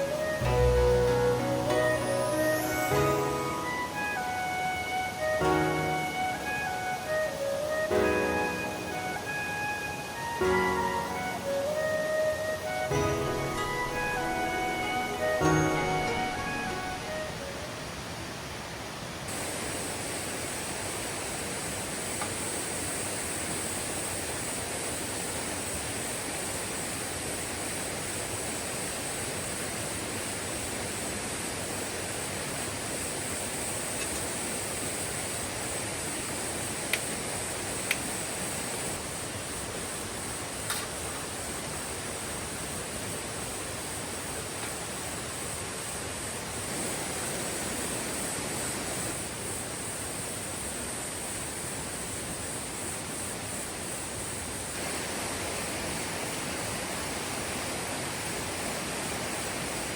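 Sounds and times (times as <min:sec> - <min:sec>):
insects humming: 0:00.0 - 0:18.0, 0:19.3 - 0:59.9
mountain stream running: 0:00.0 - 0:59.9.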